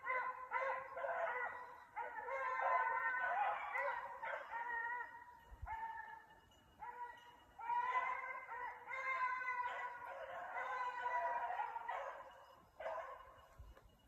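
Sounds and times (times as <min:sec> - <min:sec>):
hunting dogs baying: 0:00.0 - 0:13.6.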